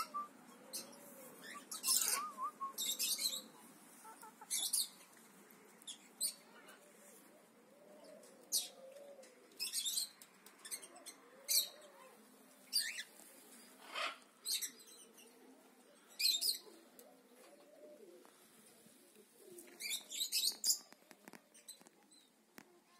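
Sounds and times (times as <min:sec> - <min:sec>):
pigeons cooing: 0:00.0 - 0:21.8.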